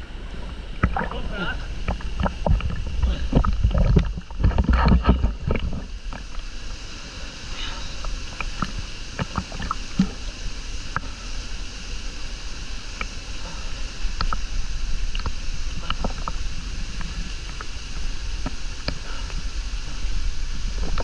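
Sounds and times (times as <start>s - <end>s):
rush of water: 0.0s - 21.0s
water lapping and splashing: 0.0s - 21.0s
small splashes and drips: 0.3s - 20.1s.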